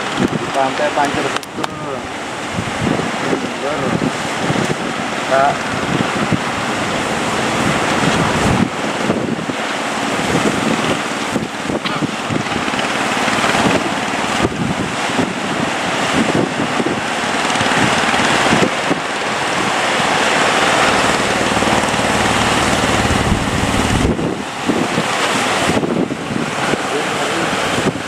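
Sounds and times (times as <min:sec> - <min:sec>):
big waves breaking: 0:00.0 - 0:28.0
boat motor running: 0:00.0 - 0:28.0
wind buffeting microphone: 0:00.0 - 0:28.0.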